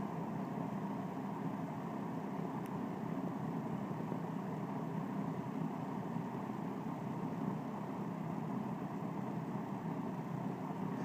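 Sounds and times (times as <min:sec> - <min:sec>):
faint motor hum: 0:00.0 - 0:11.0.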